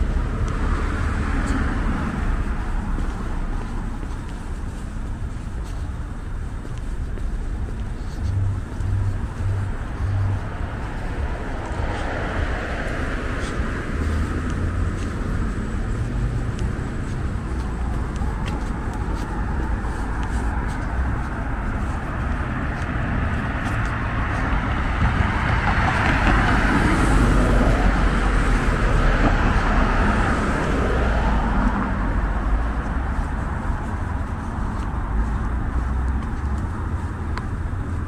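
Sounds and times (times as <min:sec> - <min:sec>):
road traffic: 0:00.0 - 0:38.0.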